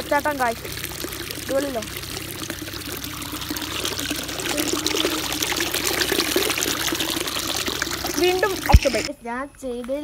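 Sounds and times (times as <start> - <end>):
water pouring and splashing: 0.0 - 9.1.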